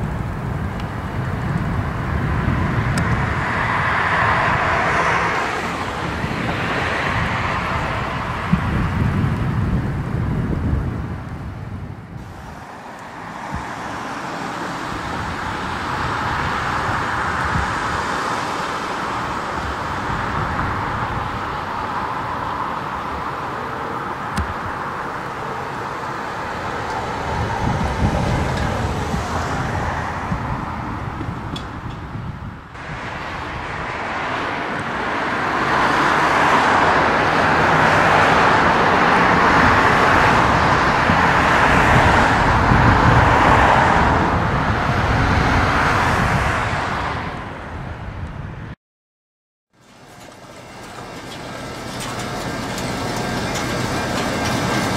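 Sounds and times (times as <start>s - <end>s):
vehicle engine and tyre noise: 0.0s - 48.8s, 49.7s - 54.9s.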